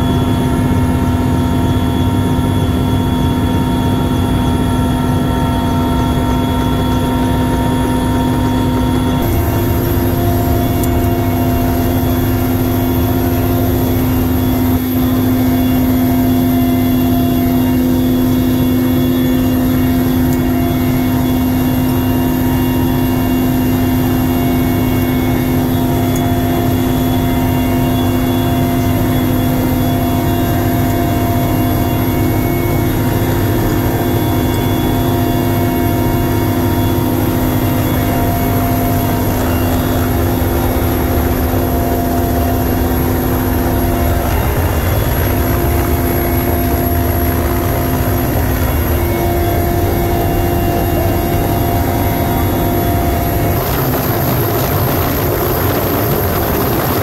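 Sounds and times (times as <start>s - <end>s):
helicopter engines and rotor drone: 0.0s - 57.0s
high turbine whine: 0.0s - 57.0s.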